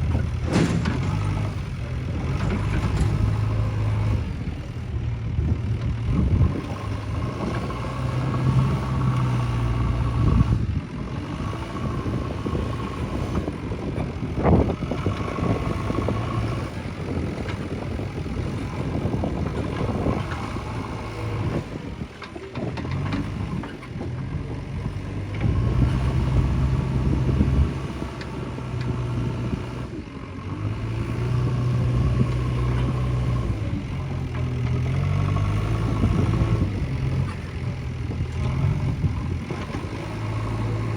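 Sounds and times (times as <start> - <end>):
backhoe diesel engine revving: 0.0 - 40.9.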